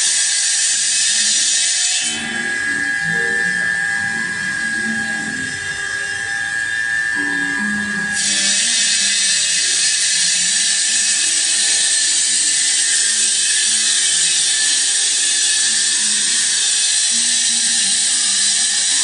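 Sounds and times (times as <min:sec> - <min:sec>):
stone cutting machine grinding: 0:00.0 - 0:19.0.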